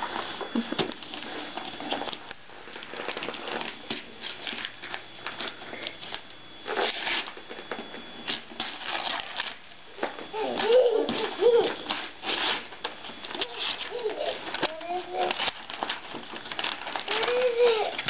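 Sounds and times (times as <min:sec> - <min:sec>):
wrapping paper crinkling and tearing: 0:00.0 - 0:18.0.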